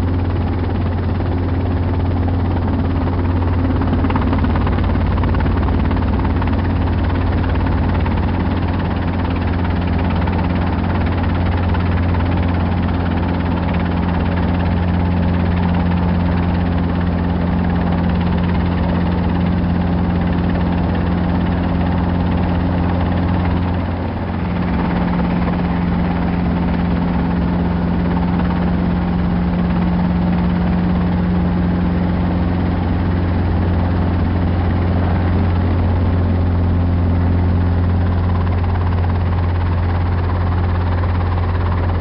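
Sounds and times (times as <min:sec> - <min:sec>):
helicopter engine and rotors: 0:00.0 - 0:42.0.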